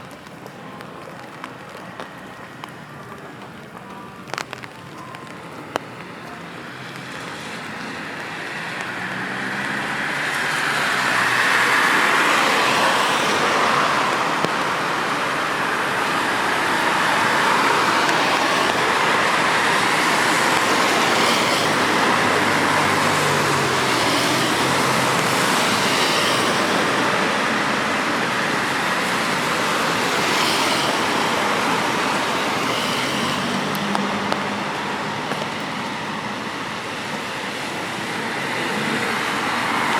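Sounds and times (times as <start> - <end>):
tyres hissing on wet asphalt: 0.0 - 39.9.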